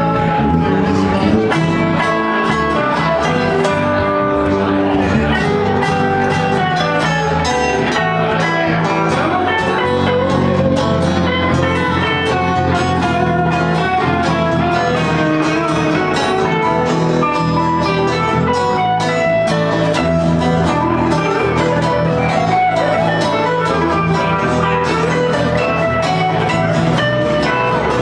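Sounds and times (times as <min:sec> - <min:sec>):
bass line: 0:00.0 - 0:28.0
live band with guitars: 0:00.0 - 0:28.0.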